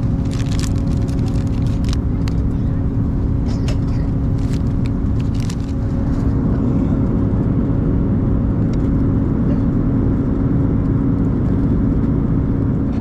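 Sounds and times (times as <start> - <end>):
airplane cabin noise: 0.0 - 13.0.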